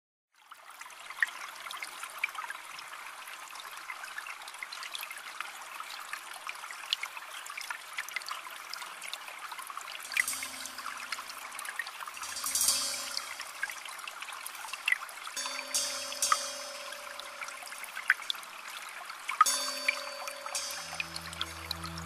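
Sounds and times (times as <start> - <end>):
aquarium water trickling and bubbling: 0.4 - 22.0.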